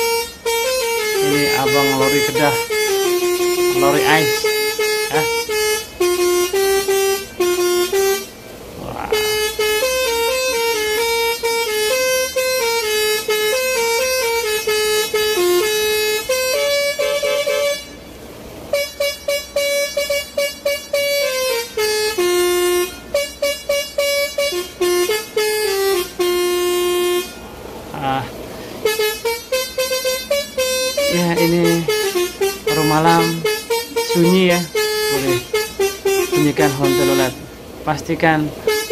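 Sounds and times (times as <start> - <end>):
musical air horn playing a tune: 0.0 - 37.8, 38.4 - 38.9.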